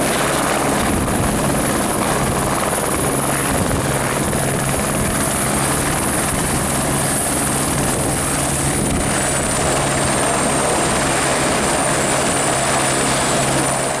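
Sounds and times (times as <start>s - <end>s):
helicopter rotor: 0.0s - 14.0s
high turbine whine: 0.0s - 14.0s.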